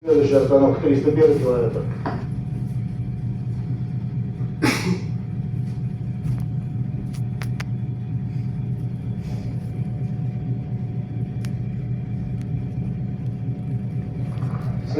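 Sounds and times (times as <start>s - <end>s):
electric train hum and rumble: 0.0s - 14.9s.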